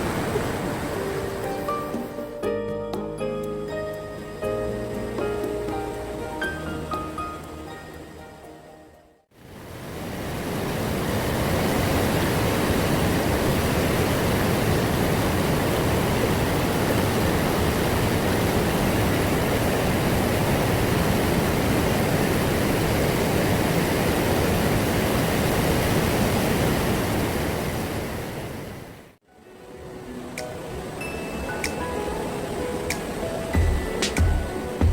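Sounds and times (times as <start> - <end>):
stream water rushing: 0.0 - 2.4, 9.4 - 34.9.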